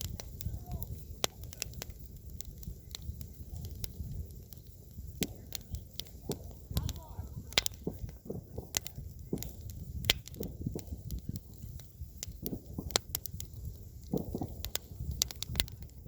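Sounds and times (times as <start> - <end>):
low steady fire rumble: 0.0 - 16.0
wood crackling and popping: 0.0 - 16.0.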